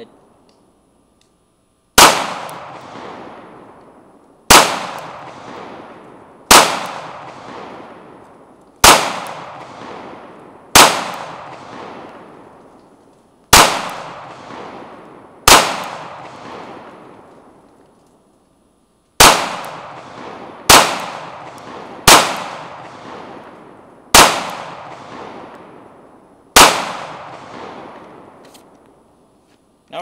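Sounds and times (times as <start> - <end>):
pistol shots with rolling echo: 2.0 - 12.8, 13.5 - 17.7, 19.2 - 28.4.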